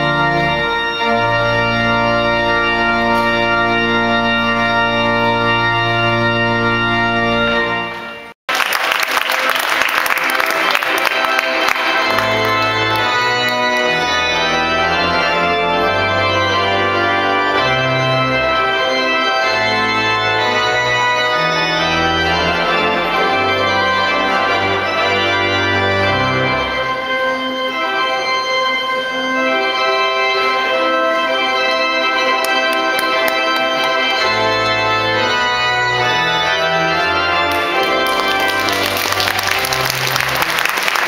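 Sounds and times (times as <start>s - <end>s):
organ bass line: 0.0s - 8.3s, 10.3s - 41.0s
organ held chords: 0.0s - 41.0s.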